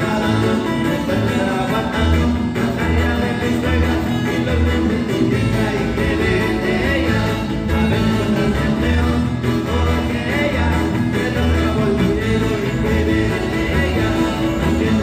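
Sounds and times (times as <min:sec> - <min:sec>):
marimba band playing dance music: 0:00.0 - 0:15.0
pulsing bass beat: 0:00.0 - 0:15.0.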